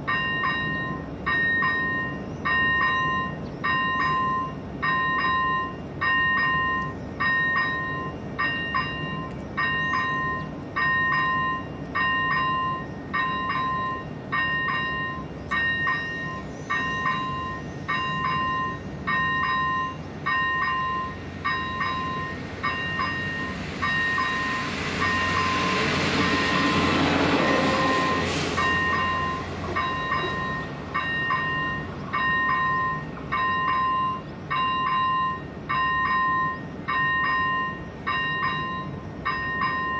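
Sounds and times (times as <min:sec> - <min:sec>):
level crossing warning bell: 0:00.0 - 0:39.9
train rumbling over rails: 0:00.0 - 0:39.9.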